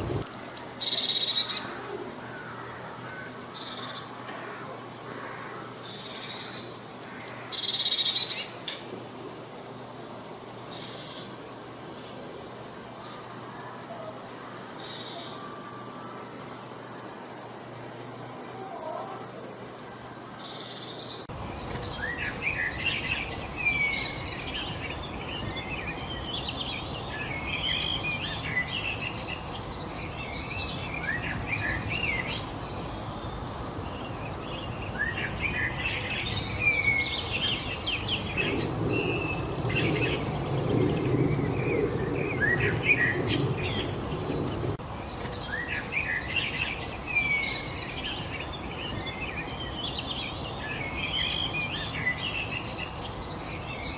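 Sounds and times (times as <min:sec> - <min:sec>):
birds singing and chirping: 0:00.0 - 0:08.8, 0:09.7 - 0:53.9
steady background hiss: 0:00.0 - 0:53.9.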